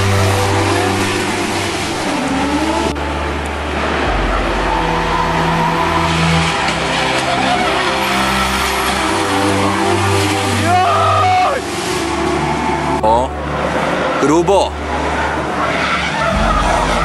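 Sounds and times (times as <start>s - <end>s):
car engines revving high: 0.0s - 17.0s.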